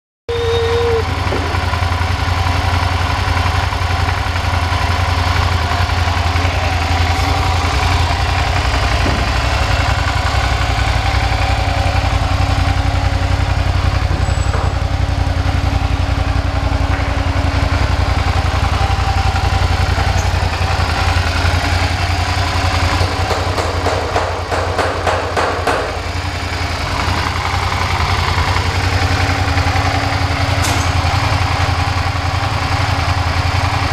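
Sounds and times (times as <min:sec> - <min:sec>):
motorcycle engine idling: 0:00.3 - 0:33.9.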